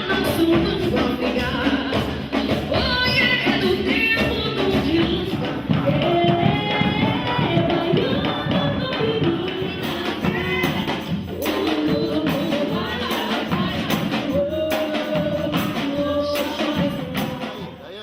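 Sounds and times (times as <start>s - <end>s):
drums and hand percussion: 0.0s - 18.0s
sharp percussion strokes: 0.0s - 18.0s.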